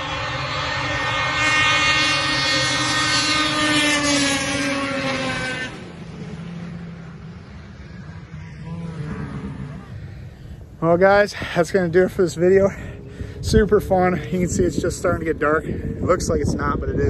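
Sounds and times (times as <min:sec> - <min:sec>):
snowmobile engine running: 0:00.0 - 0:17.0.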